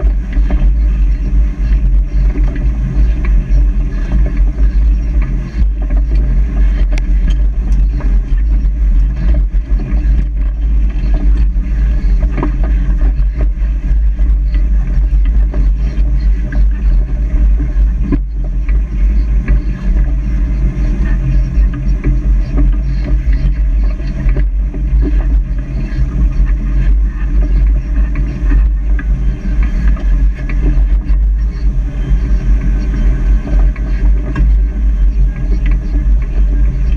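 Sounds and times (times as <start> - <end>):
off-road vehicle engine rumbling: 0.0 - 36.9.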